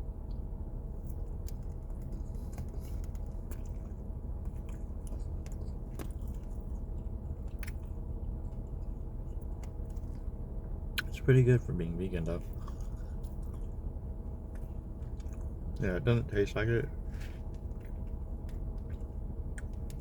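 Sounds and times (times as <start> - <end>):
low background hum: 0.0 - 20.0
person chewing: 1.0 - 11.1, 12.4 - 15.8, 17.0 - 20.0.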